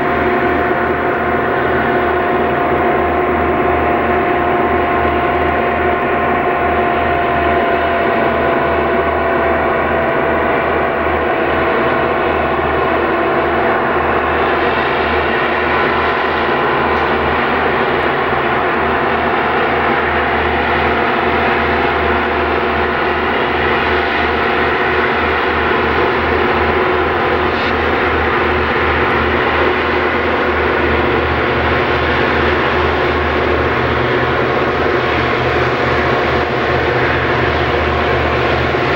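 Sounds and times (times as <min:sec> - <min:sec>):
heavy locomotive engine drone: 0:00.0 - 0:38.9
high steady whine: 0:00.0 - 0:38.9.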